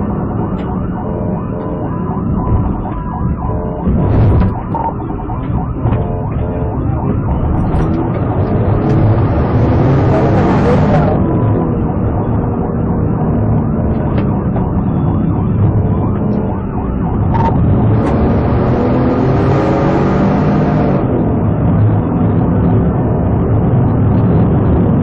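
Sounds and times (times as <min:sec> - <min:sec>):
car engine and road noise: 0:00.0 - 0:25.0
police siren wailing: 0:00.0 - 0:25.0.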